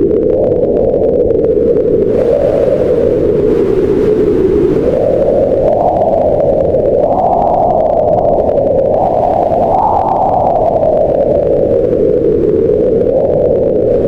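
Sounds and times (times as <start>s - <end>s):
wind howling: 0.0s - 14.0s.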